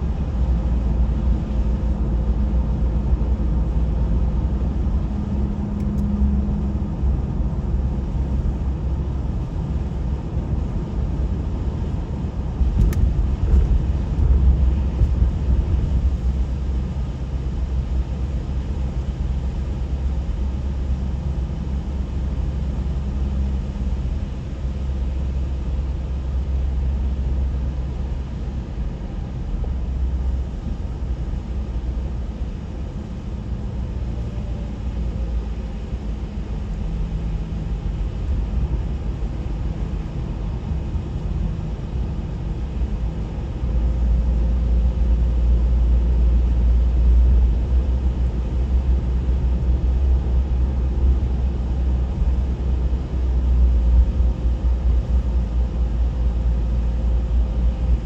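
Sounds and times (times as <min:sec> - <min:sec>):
road vehicle rumbling: 0:00.0 - 0:58.0.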